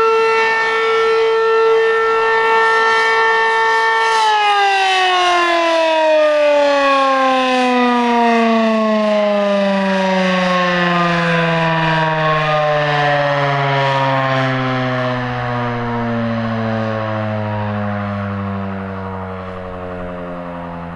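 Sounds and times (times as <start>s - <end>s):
warning siren winding down: 0.0s - 20.9s.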